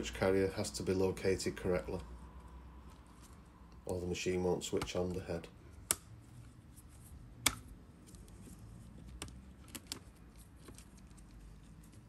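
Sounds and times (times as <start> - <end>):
faint handling noise: 0.5 - 12.0.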